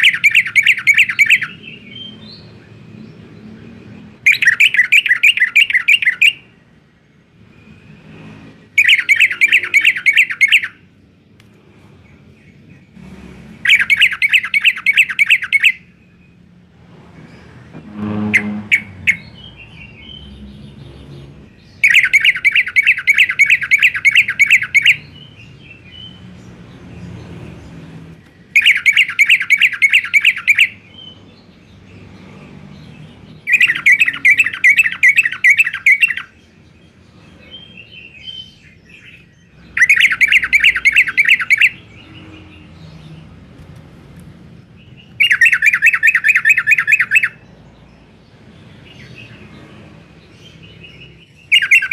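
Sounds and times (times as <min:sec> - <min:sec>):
bird singing fast repeated notes: 0:00.0 - 0:43.6, 0:44.4 - 0:51.9.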